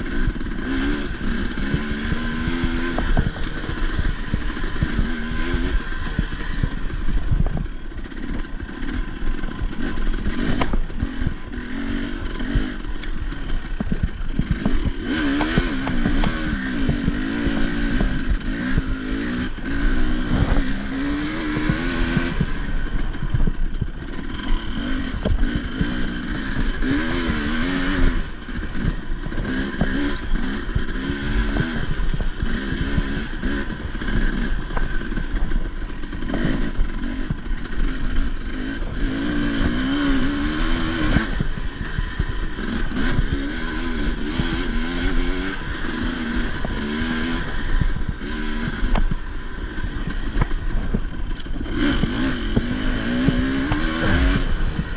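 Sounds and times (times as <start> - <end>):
dirt bike engine revving: 0.0 - 54.9
knocks and clatter from bike: 0.0 - 54.9.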